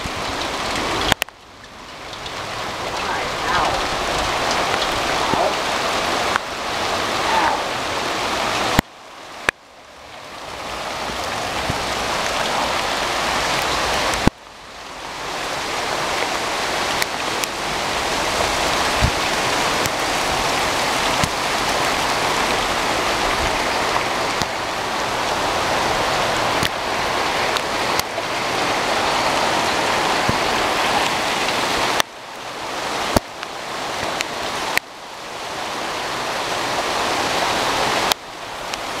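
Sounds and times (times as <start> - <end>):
hail falling on leaves: 0.0 - 39.0.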